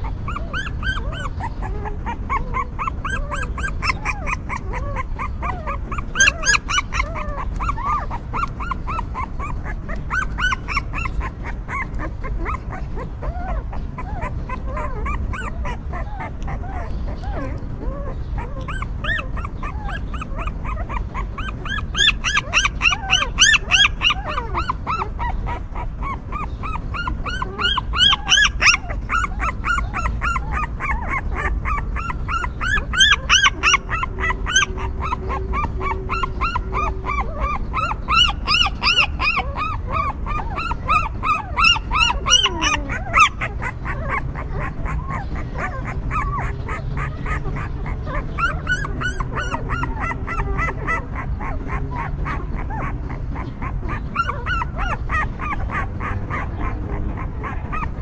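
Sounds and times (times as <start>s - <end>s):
puppies whimpering and squealing: 0.0s - 58.0s.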